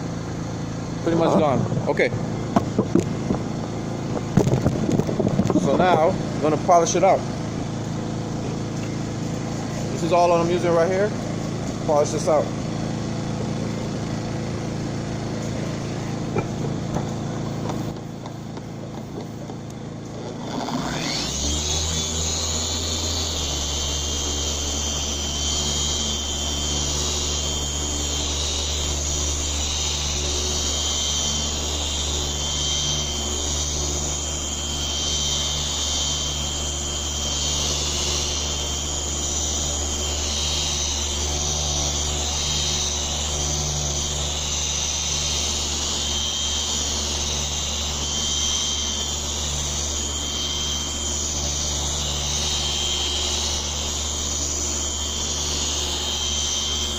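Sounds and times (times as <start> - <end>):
electric car polisher humming: 0.0 - 56.9.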